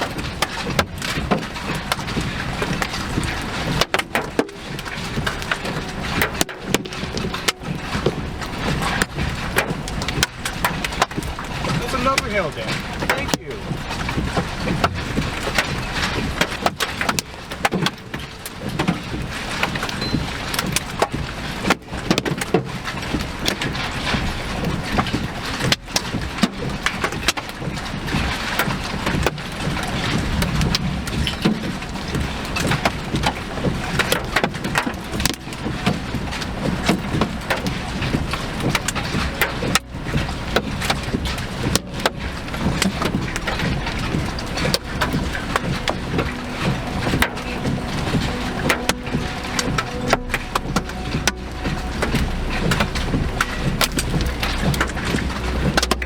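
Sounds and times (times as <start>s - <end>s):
vehicle rumble: 0.0s - 56.0s
wind: 0.0s - 56.0s.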